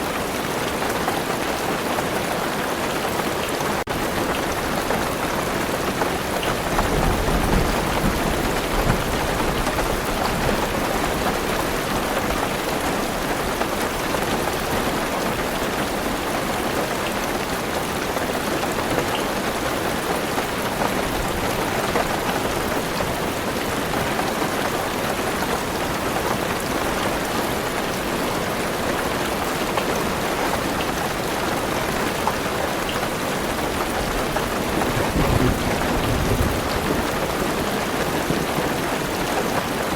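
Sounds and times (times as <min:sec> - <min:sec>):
heavy rain on a car roof: 0:00.0 - 0:39.9.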